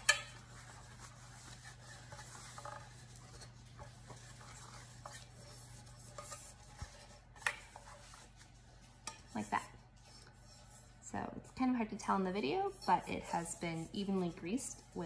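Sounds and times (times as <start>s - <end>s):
low steady hum: 0.0s - 15.0s
paper towel rustling and scraping: 0.0s - 15.0s.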